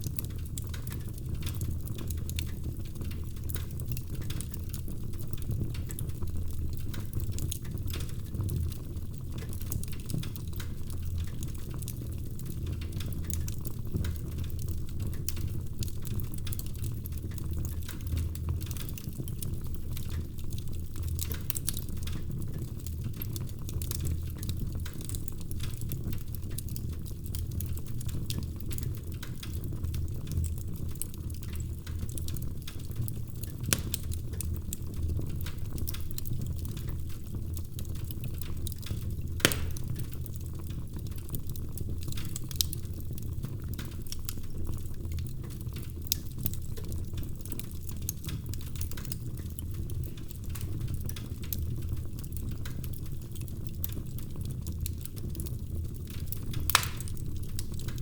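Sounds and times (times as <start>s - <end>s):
fire flames rumbling: 0.0s - 58.0s
fire popping: 0.0s - 58.0s
wood fire crackling and snapping: 0.0s - 58.0s.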